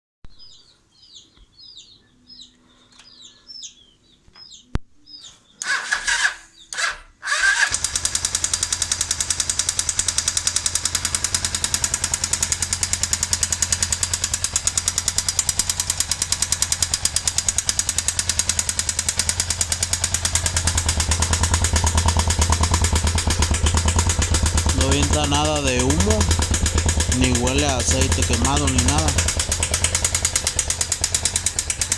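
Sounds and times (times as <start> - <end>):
motorcycle engine idling with clatter: 5.6 - 31.9
motorcycle starter cranking: 5.6 - 31.9.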